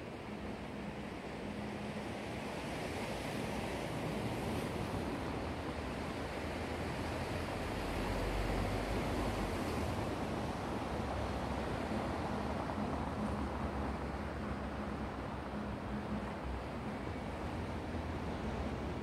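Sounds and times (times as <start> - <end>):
waves washing ashore: 0.0 - 19.0
wind: 0.0 - 19.0.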